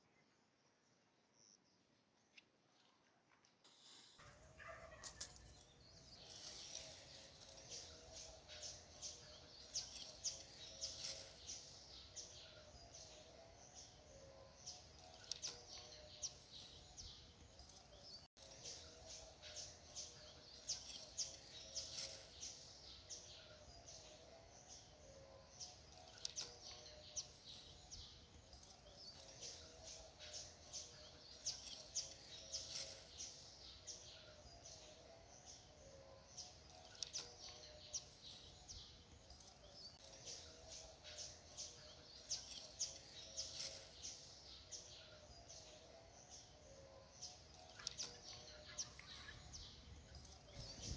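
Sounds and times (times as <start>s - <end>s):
small birds chirping: 3.7s - 50.9s.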